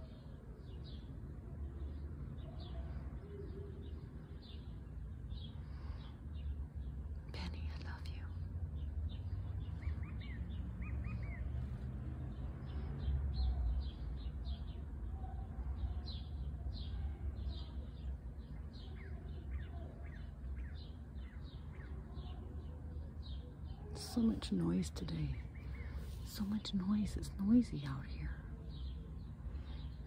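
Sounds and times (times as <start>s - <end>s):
low background rumble: 0.0s - 30.0s
small birds chirping: 0.0s - 30.0s.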